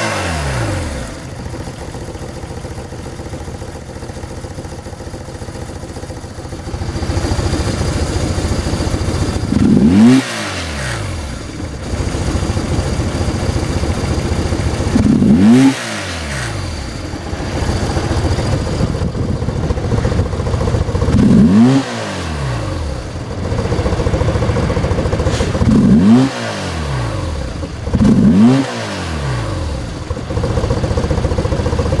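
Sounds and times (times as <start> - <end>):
motorcycle engine idling and revving: 0.0 - 32.0.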